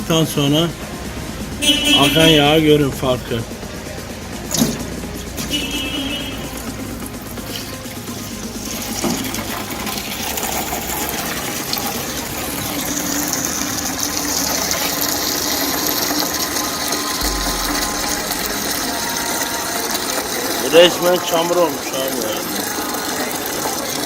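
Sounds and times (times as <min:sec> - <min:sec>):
oil pouring into a container: 0:04.5 - 0:24.0.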